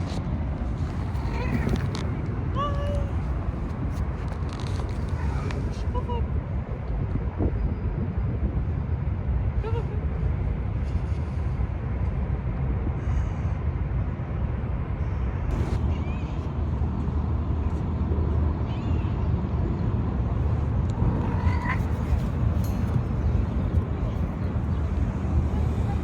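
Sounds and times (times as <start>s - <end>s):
low rumbling background noise: 0.0s - 26.0s.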